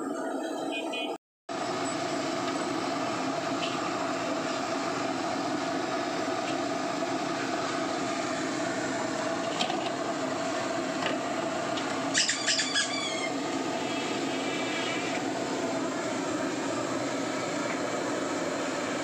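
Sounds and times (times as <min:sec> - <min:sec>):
mechanical drone: 0:01.6 - 0:19.0.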